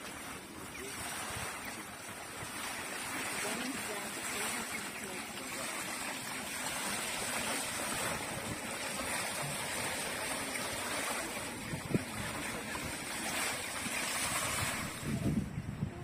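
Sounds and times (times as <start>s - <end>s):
fountain water splashing: 0.0s - 15.5s.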